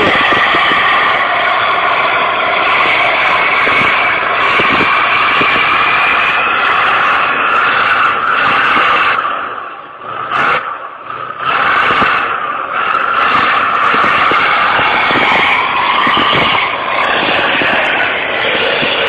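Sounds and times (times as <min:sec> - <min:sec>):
truck engine at high revs: 0:00.0 - 0:19.0.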